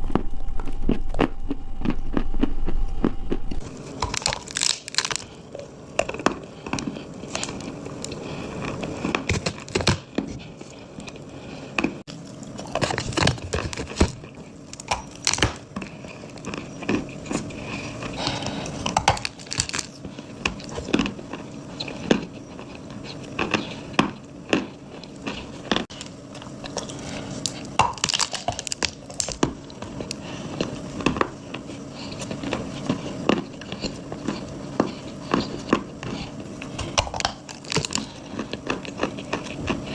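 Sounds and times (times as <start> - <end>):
dry clay crunching when chewed: 0.0 - 39.9.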